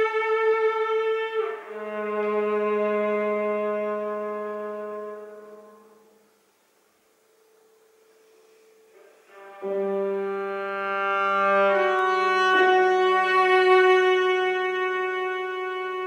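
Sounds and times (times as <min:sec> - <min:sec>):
viola bowed notes: 0:00.0 - 0:06.2, 0:07.8 - 0:16.0.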